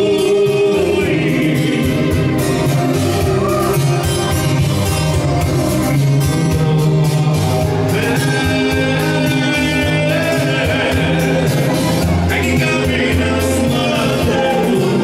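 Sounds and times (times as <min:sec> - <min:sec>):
live band dance music: 0:00.0 - 0:15.0
person singing: 0:00.0 - 0:15.0
saxophone: 0:00.0 - 0:15.0.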